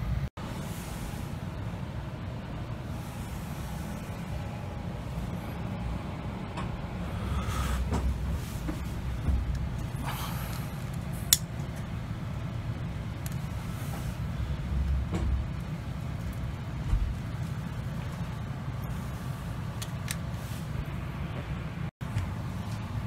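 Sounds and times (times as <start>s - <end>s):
train carriage rumble: 0.0s - 23.0s.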